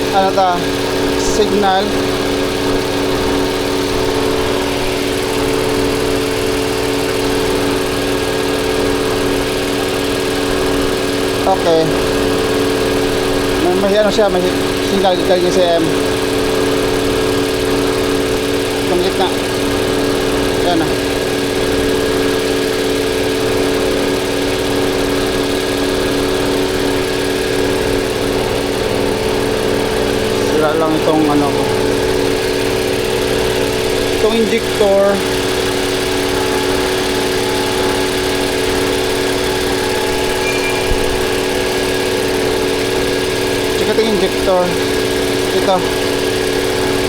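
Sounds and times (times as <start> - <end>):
car engine idling unevenly: 0.0 - 40.5, 41.1 - 47.0.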